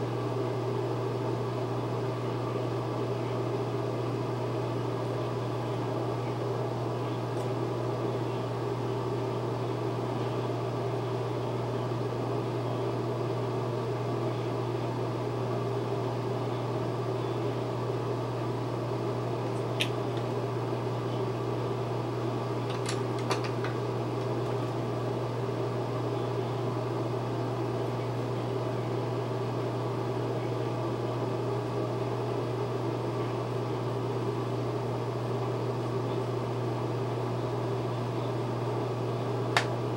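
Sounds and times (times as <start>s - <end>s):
small fan motor humming: 0.0s - 39.9s.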